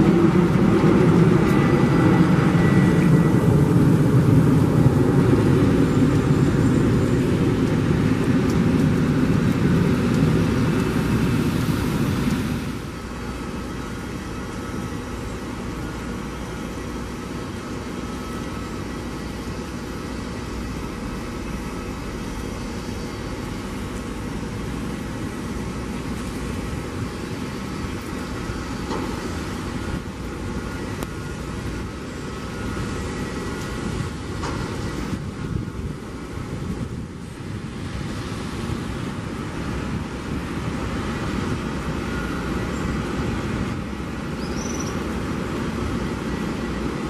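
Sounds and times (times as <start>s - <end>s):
jet engines idling: 0.0s - 47.0s.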